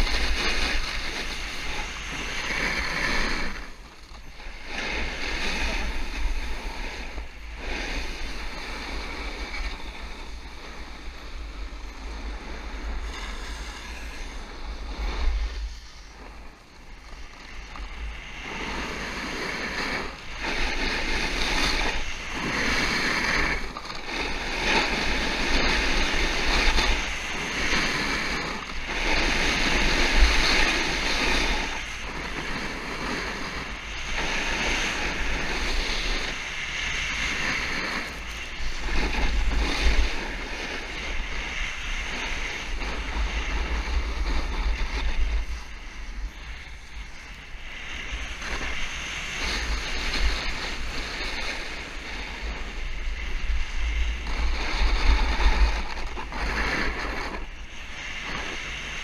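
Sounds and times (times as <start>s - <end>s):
snowboard carving on snow: 0.0s - 59.0s
wind buffeting microphone: 0.0s - 59.0s.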